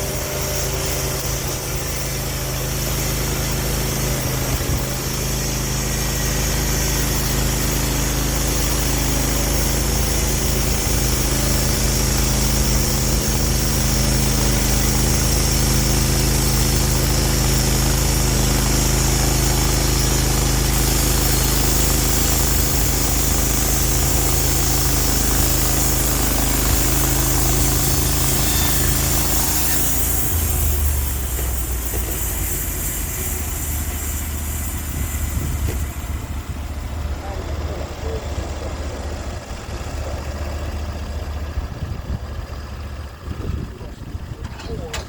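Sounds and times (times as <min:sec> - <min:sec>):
loud hiss of saw blade cutting: 0:00.0 - 0:41.5
sawmill engine running under load: 0:00.0 - 0:45.0.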